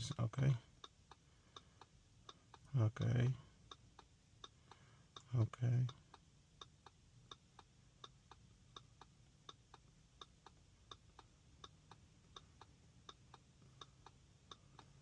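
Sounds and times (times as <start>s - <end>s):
faint clock ticking: 0.0s - 15.0s.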